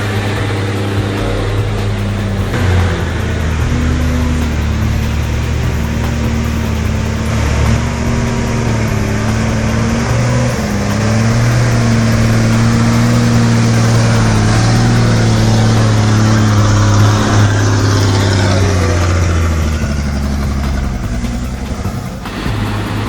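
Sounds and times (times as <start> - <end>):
truck engine droning under load: 0.0 - 23.0.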